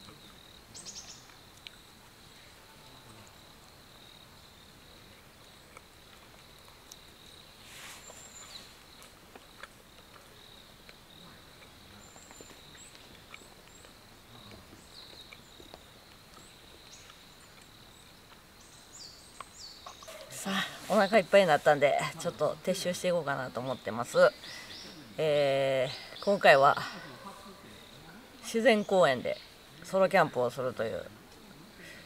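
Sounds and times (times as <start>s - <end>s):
insect trill: 0.0s - 32.0s.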